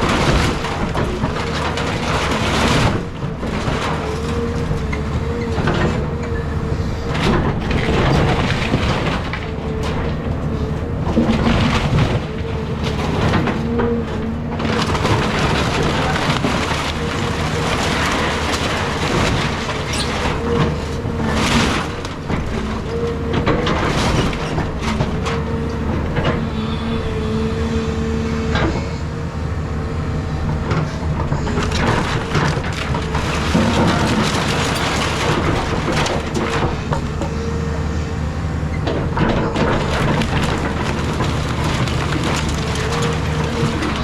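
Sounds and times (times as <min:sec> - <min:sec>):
excavator diesel engine under load: 0:00.0 - 0:44.0
wood and debris cracking: 0:00.0 - 0:44.0.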